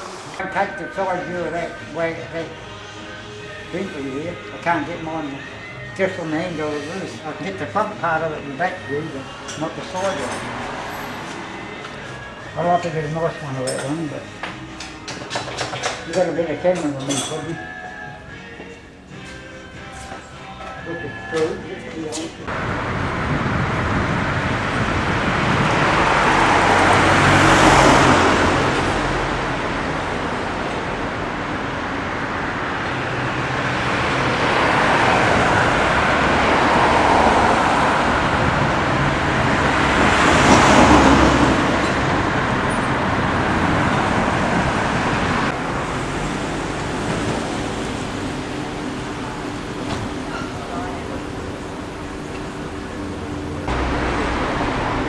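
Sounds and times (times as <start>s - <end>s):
cars passing: 0.0s - 55.0s
road noise: 0.0s - 55.0s.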